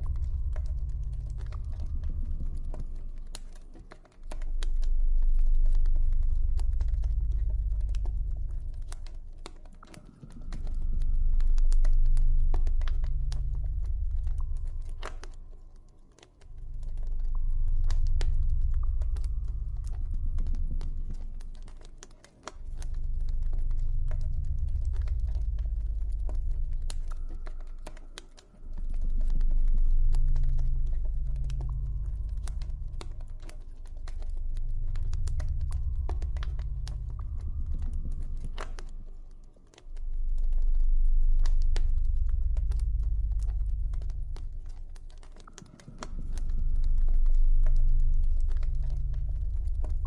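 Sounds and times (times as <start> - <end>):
low ambient drone: 0.0 - 50.0.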